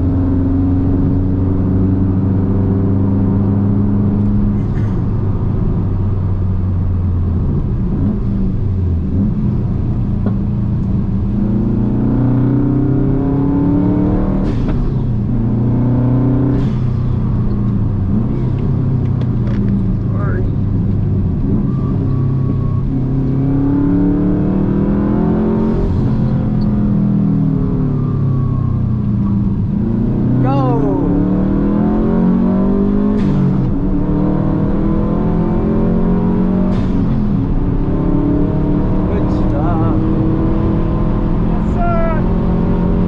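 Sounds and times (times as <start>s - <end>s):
car engine and exhaust revving: 0.0s - 43.0s.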